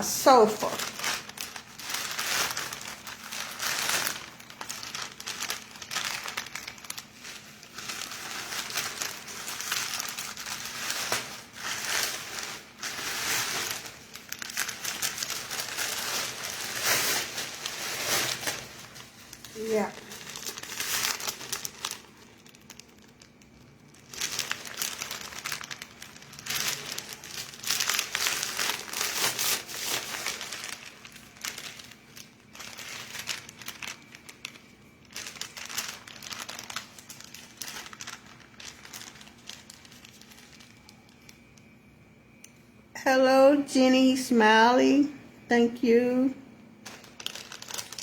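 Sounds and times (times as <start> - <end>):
parcel packaging crinkling: 0.0 - 42.9, 45.5 - 48.0.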